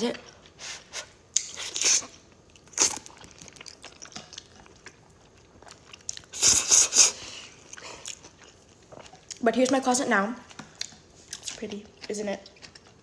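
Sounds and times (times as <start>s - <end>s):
chewing: 1.3s - 13.0s.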